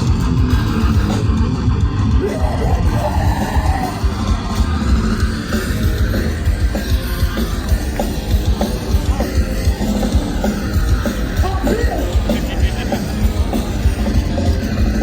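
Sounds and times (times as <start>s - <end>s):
live punk band playing: 0.0s - 15.0s.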